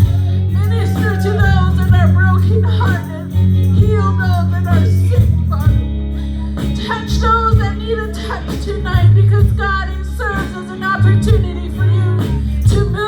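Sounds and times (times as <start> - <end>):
instrumental accompaniment with bass: 0.0 - 13.0
woman singing: 0.0 - 13.0.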